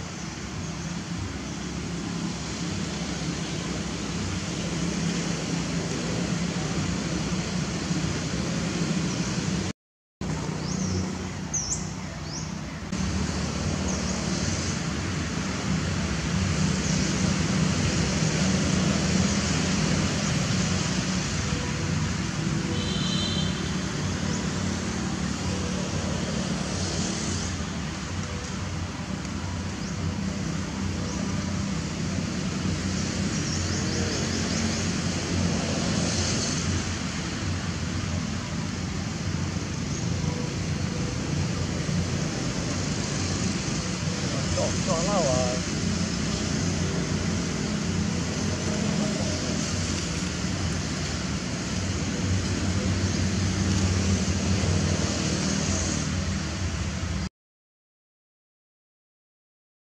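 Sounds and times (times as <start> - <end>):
outdoor background rumble and hiss: 0.0 - 57.3.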